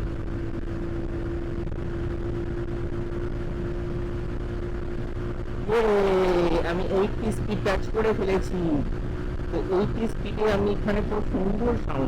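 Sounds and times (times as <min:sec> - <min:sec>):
low wind rumble: 0:00.0 - 0:12.0
motorcycle engine droning: 0:00.0 - 0:12.0.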